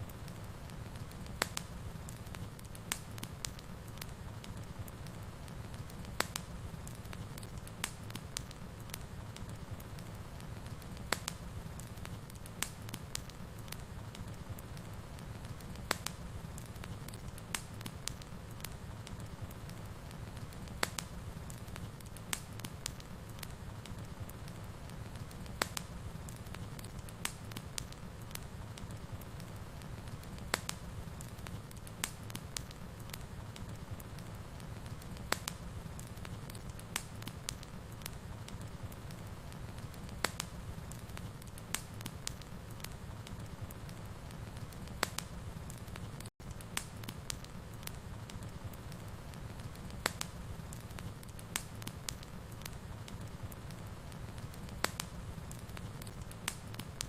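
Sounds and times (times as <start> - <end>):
fire crackling and popping: 0.0 - 57.0
fireplace flames rumbling: 0.0 - 57.0.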